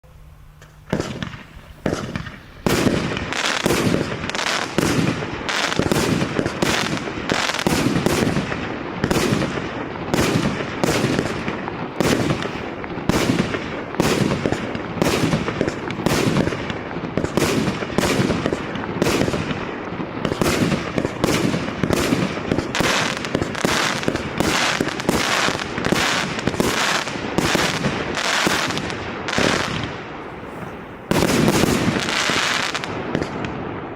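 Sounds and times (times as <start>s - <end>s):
firework battery firing: 0.0s - 33.9s.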